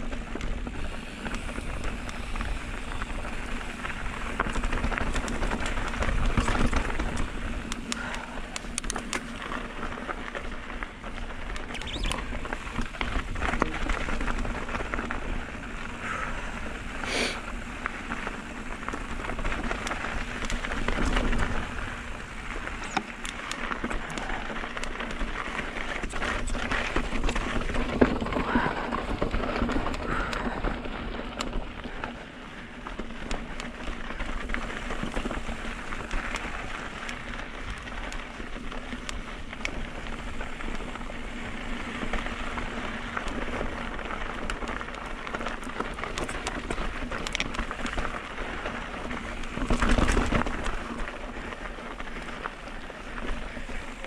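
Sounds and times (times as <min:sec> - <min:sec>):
bike rattling: 0:00.0 - 0:54.0
tyres crunching over loose ground: 0:00.0 - 0:54.0
wind rumbling on microphone: 0:00.0 - 0:54.0.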